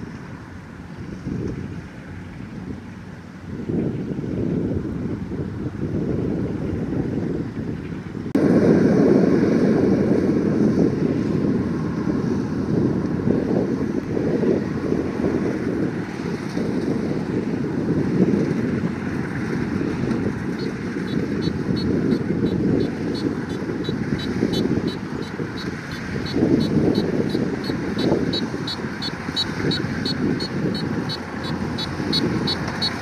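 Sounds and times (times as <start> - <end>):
combine harvester engine and machinery: 0.0 - 33.0.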